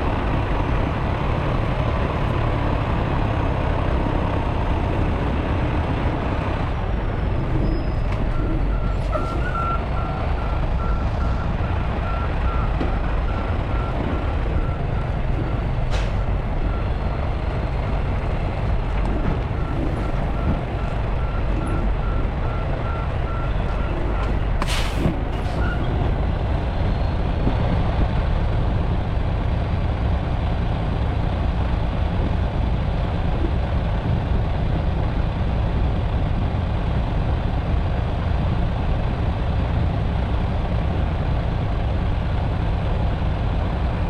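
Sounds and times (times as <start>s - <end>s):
truck engine rumbling: 0.0s - 44.0s.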